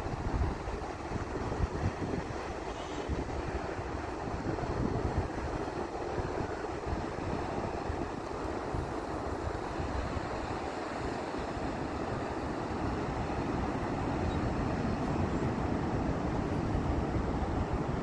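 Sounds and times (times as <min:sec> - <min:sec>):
ocean waves washing: 0:00.0 - 0:18.0
wind buffeting the microphone: 0:00.0 - 0:18.0.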